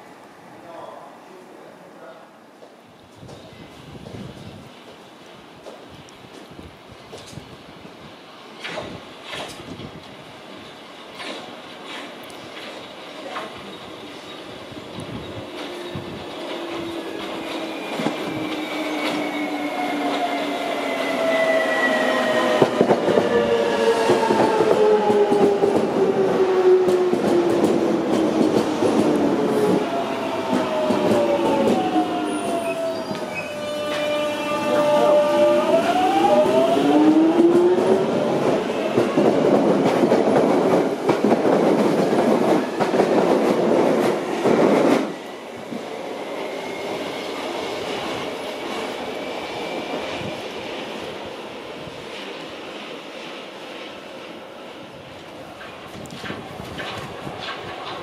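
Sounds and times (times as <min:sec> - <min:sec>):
train wheels rumbling on rails: 0:08.4 - 0:54.0, 0:55.0 - 0:58.0.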